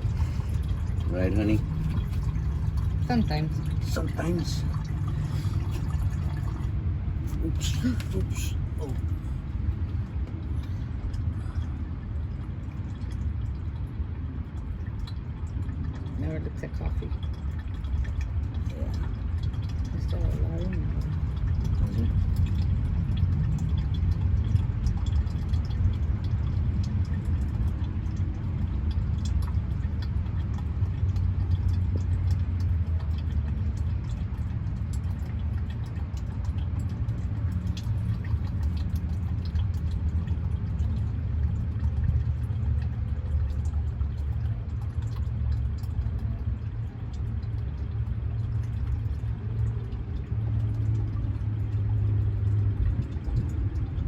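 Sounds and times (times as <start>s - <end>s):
fluid draining into a jug: 0.0s - 54.0s
low rumble: 0.0s - 54.0s.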